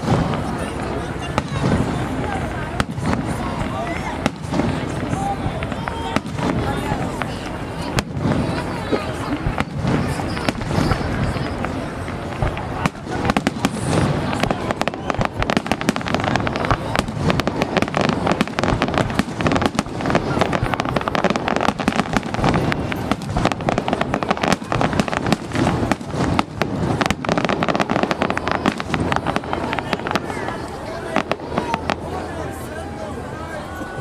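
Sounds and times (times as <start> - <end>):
fireworks crackling bangs: 0.0 - 34.0.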